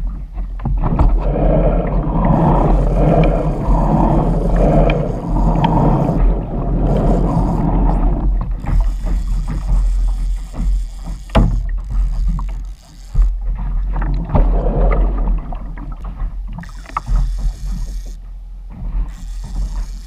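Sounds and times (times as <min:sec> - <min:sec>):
wind rumble on microphone: 0:00.0 - 0:12.6, 0:13.2 - 0:20.0
water washing against hull: 0:00.0 - 0:20.0.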